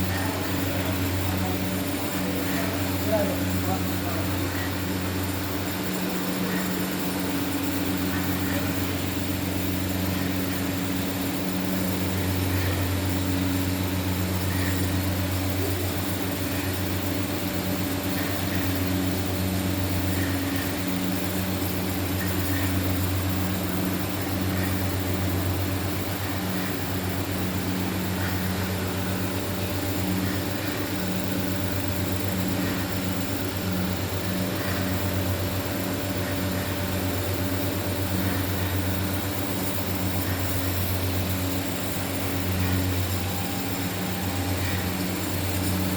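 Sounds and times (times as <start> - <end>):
electric motor humming with hiss: 0.0 - 45.9.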